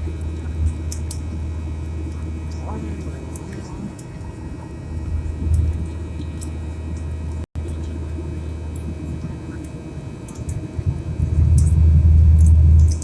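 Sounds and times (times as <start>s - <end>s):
airliner engine hum in cabin: 0.0s - 13.0s.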